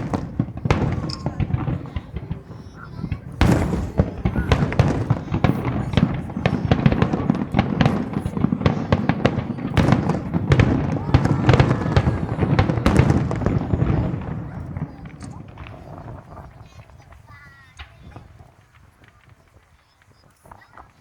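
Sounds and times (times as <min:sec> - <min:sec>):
echoing booms: 0:00.0 - 0:18.4
firework bangs and crackles: 0:00.0 - 0:21.0.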